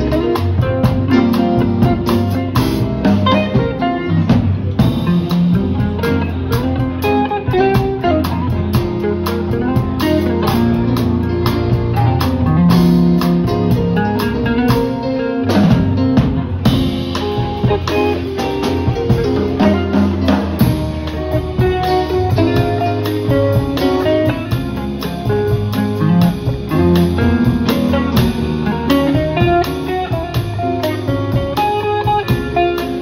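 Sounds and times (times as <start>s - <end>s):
cymbals keeping a beat: 0.0s - 33.0s
live rock band playing: 0.0s - 33.0s.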